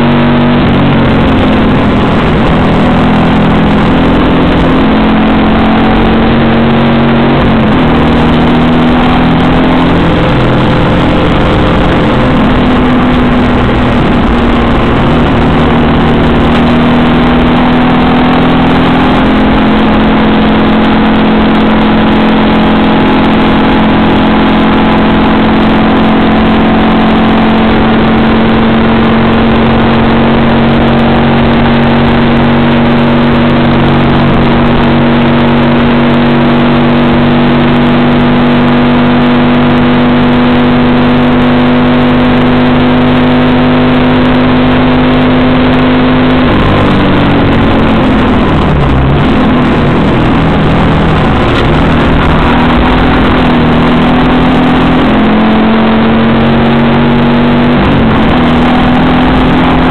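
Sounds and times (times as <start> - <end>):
car engine running hard: 0.0 - 59.9.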